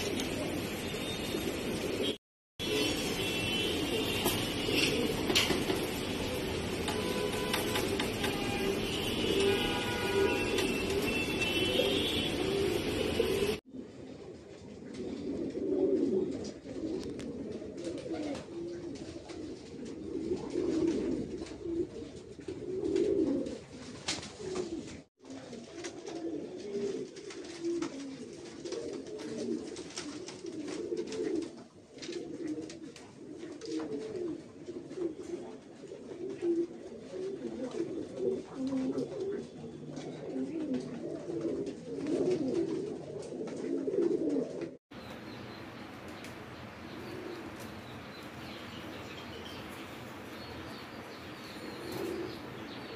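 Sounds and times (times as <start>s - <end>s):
pigeons cooing: 0.0s - 52.9s.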